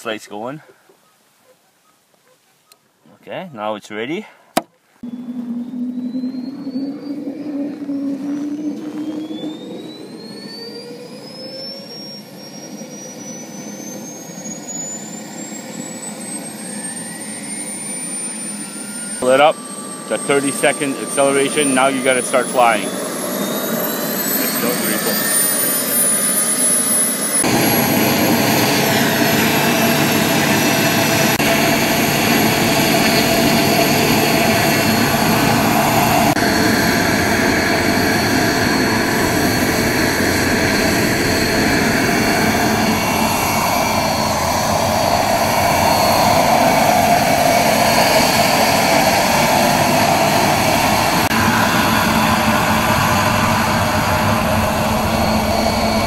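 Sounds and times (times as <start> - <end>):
helicopter rotor noise: 5.0 - 56.0
turbine whine: 5.0 - 56.0.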